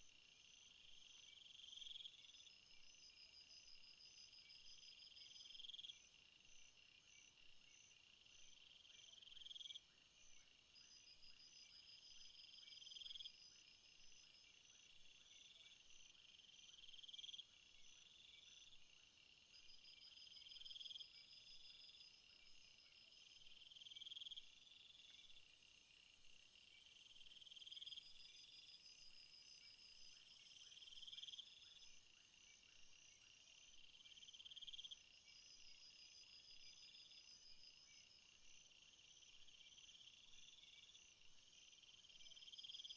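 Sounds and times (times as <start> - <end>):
insects pulsing trills: 6.7 - 42.9.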